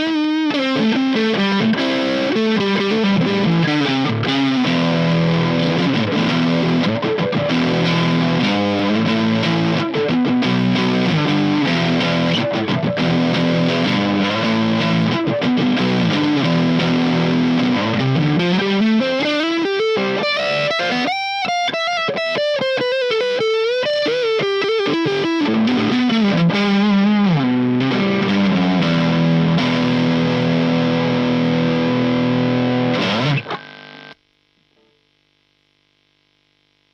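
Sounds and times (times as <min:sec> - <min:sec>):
distorted electric guitar: 0:00.0 - 0:36.9.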